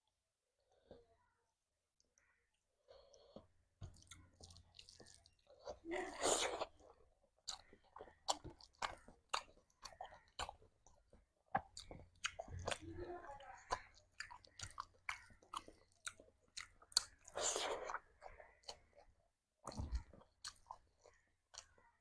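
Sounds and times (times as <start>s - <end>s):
person chewing food: 2.9s - 22.0s.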